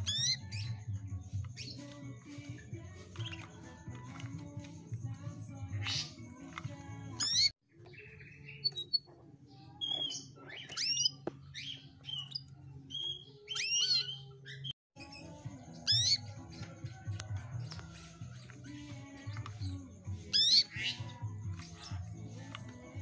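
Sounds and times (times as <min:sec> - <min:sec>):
canary chirps and whistles: 0:00.0 - 0:04.2, 0:05.7 - 0:23.0.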